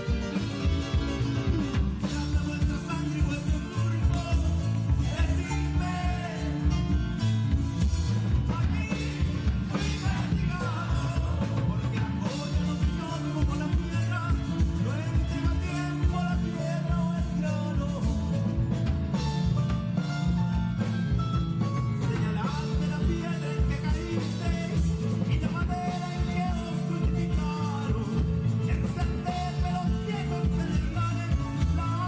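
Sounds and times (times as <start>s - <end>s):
live rock band playing: 0.0s - 32.0s
person singing: 1.2s - 7.4s, 8.3s - 18.5s, 22.0s - 32.0s.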